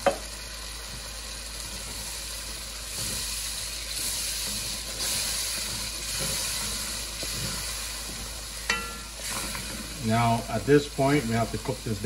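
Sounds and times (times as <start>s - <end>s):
curry sizzling in a pot: 0.0s - 12.0s.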